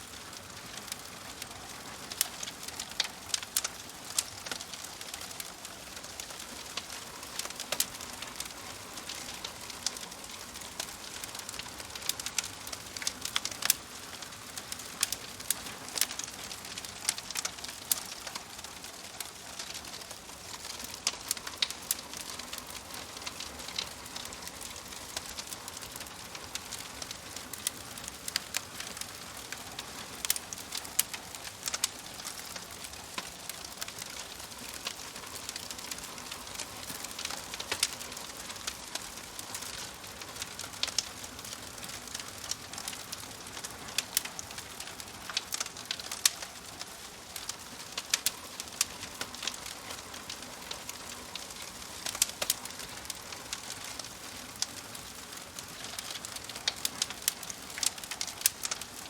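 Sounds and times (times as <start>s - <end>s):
fire soft hiss: 0.0s - 59.0s
wood logs crackling and popping: 0.0s - 59.0s.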